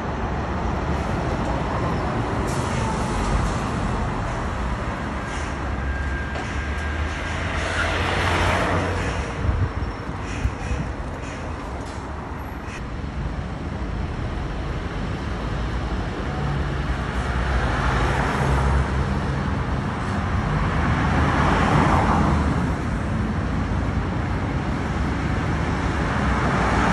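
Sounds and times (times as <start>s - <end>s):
cars passing: 0.0s - 26.9s.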